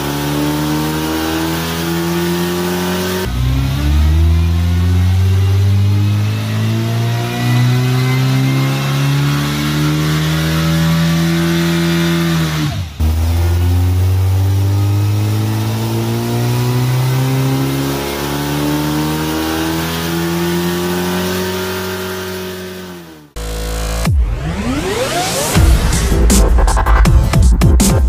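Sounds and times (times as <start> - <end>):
engine revving under load: 0.0 - 26.4.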